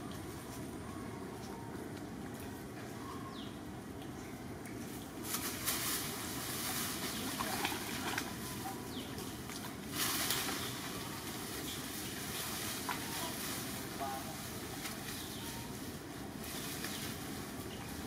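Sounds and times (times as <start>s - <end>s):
leaves and branches rustling: 0.0s - 18.0s.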